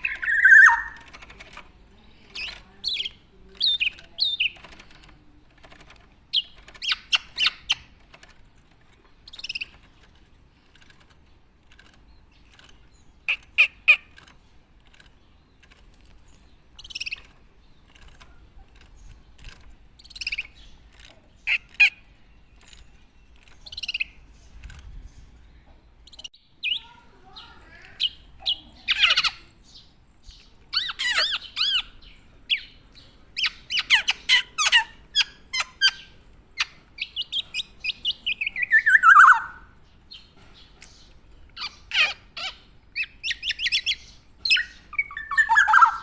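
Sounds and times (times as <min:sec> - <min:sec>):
bird chirping calls: 0:00.0 - 0:08.3, 0:08.9 - 0:46.0.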